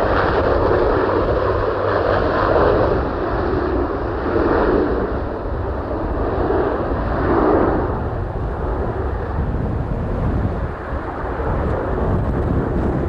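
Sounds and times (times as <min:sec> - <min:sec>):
airplane engine rush: 0:00.0 - 0:13.0.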